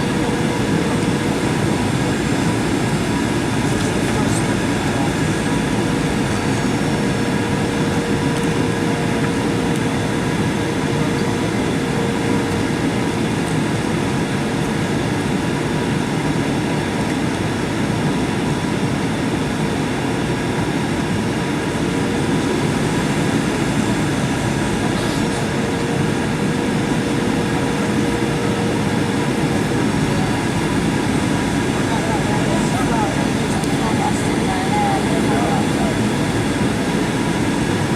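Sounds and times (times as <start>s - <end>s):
jet cabin engine rumble: 0.0s - 37.9s.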